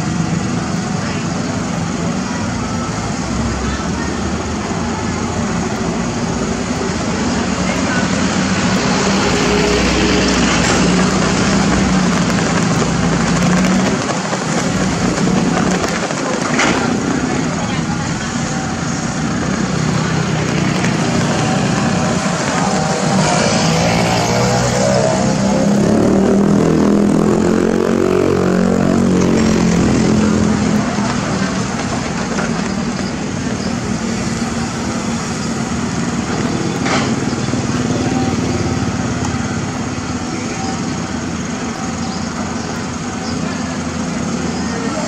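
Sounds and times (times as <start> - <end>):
excavator diesel engine: 0.0 - 45.0.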